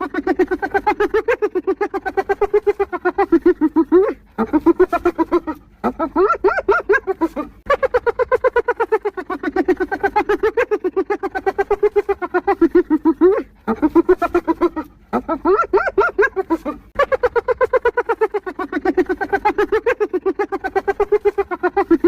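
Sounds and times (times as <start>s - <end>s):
hyena giggling: 0.0s - 22.0s.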